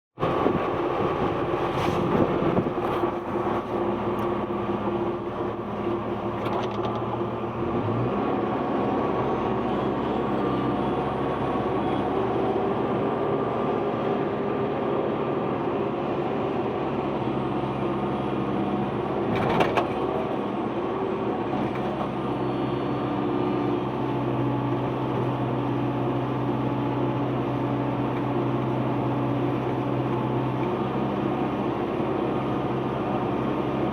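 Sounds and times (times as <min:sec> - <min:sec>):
excavator engine running: 0:00.2 - 0:33.9.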